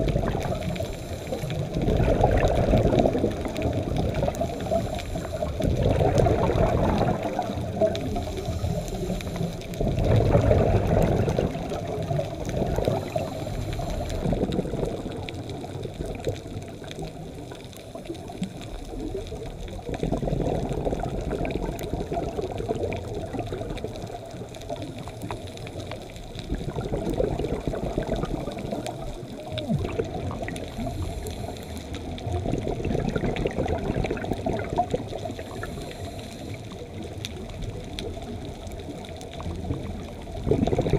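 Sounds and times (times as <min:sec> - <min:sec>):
faint crackling clicks: 0:00.0 - 0:40.9
muffled underwater bubbles: 0:00.0 - 0:40.9.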